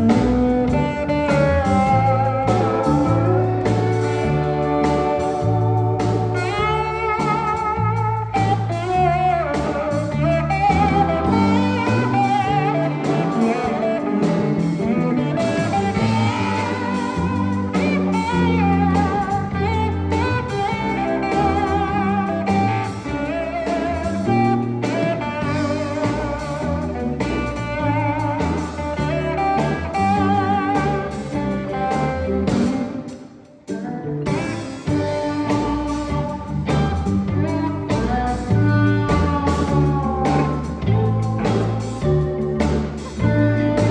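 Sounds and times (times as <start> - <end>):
bass and drums: 0.0 - 43.9.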